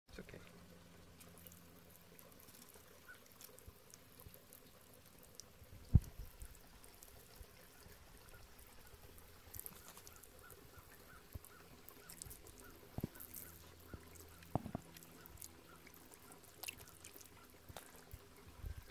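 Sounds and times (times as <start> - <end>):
water splashing onto concrete: 1.1 - 18.4.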